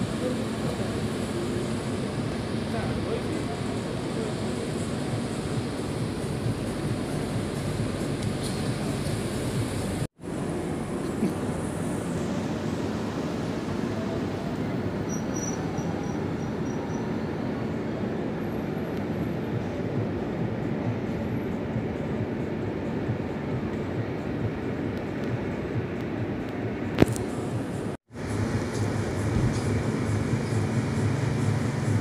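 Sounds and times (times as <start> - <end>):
low outdoor noise: 0.0 - 32.0.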